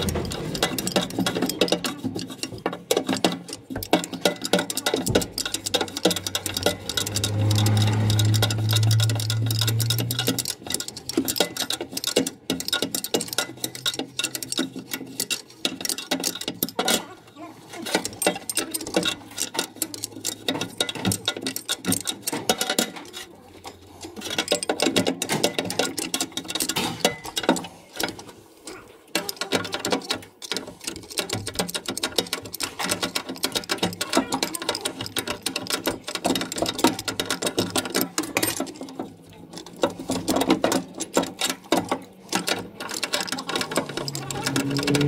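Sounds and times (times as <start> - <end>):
hand tools clicking on metal: 0.0 - 45.0.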